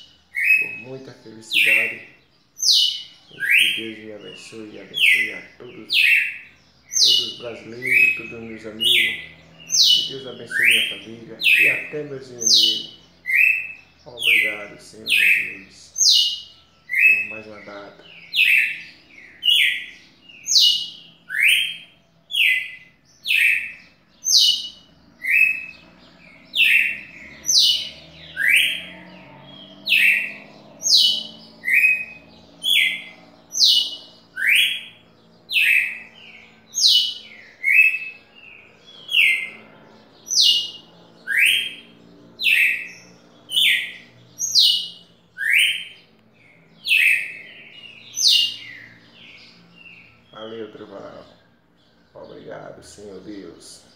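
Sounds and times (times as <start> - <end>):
bird singing whistled notes: 0.0 - 53.9.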